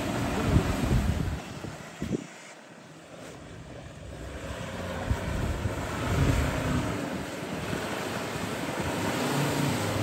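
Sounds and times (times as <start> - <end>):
diesel engine pulling hard: 0.0 - 10.0
tyres churning and splashing mud: 0.0 - 10.0.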